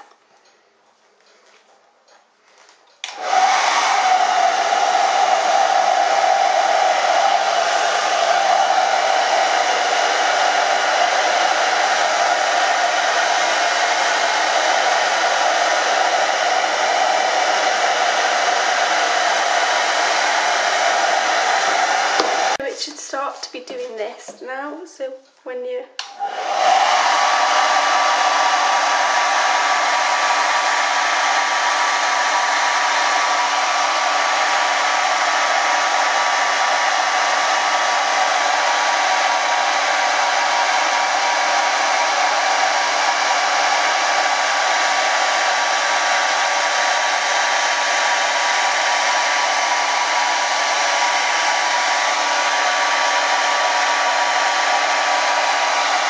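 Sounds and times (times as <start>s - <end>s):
hair dryer blowing air: 3.0s - 23.3s, 26.0s - 56.0s.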